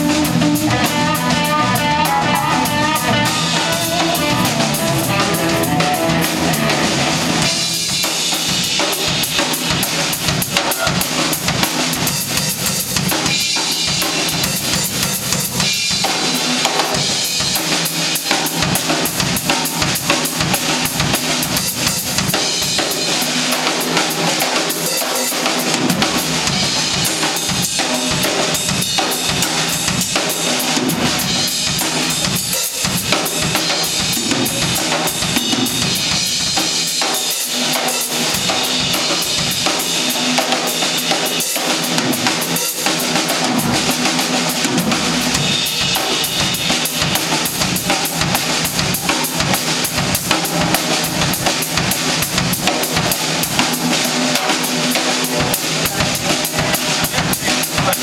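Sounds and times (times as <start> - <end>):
guitar: 0.0 - 58.0.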